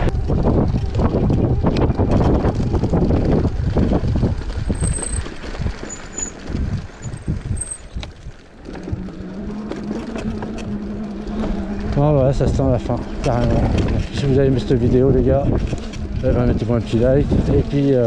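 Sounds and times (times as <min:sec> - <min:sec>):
off-road vehicle engine: 0:00.0 - 0:18.0
wind buffeting microphone: 0:00.0 - 0:18.0.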